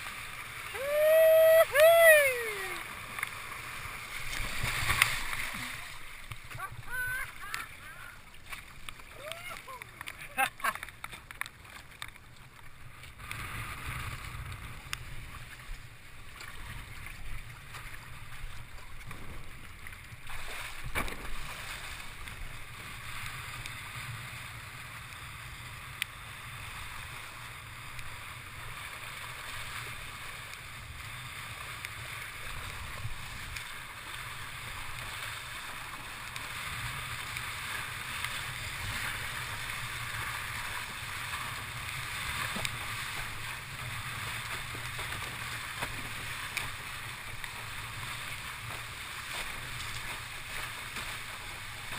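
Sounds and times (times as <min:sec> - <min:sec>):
water rushing under board: 0:00.0 - 0:51.9.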